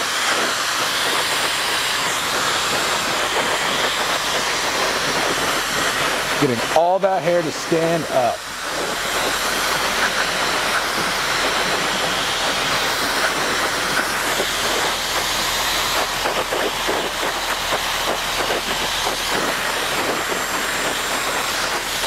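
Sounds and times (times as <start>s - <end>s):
hair dryer blowing: 0.0s - 22.0s.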